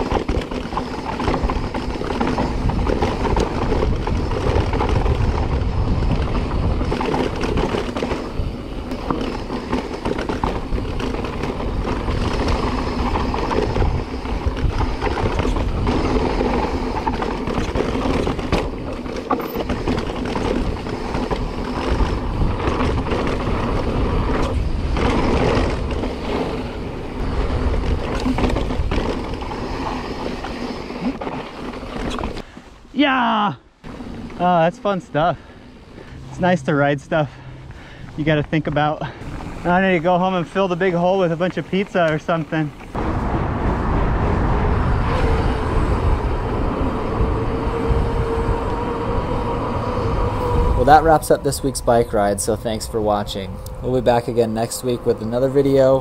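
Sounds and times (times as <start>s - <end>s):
wind rumble on microphone: 0.0s - 32.4s, 35.4s - 56.0s
bike knocking and rattling: 0.0s - 32.7s, 33.8s - 43.2s, 45.0s - 56.0s.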